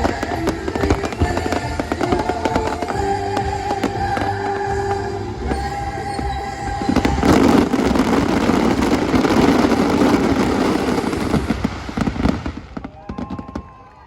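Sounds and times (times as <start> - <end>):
show music: 0.0 - 12.8
fireworks bursts and crackle: 0.0 - 14.0.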